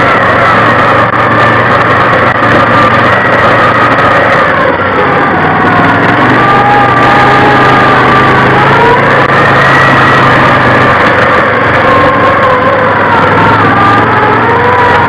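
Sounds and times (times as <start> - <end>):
vehicle engine noise: 0.0 - 15.0.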